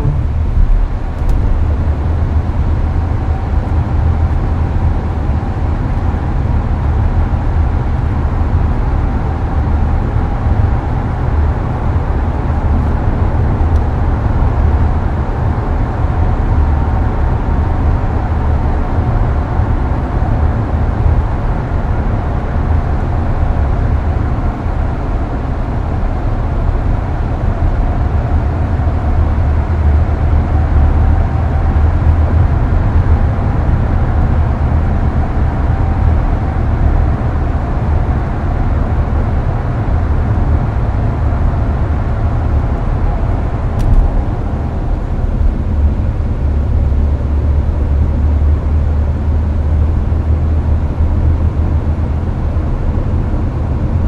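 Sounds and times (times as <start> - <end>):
air conditioning fan blowing: 0.0 - 54.0
road and engine rumble: 0.0 - 54.0.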